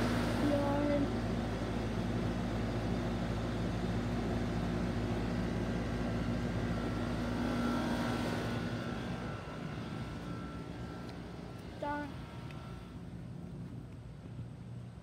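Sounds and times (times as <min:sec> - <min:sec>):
engine droning: 0:00.0 - 0:15.0
faint high whine: 0:00.0 - 0:15.0.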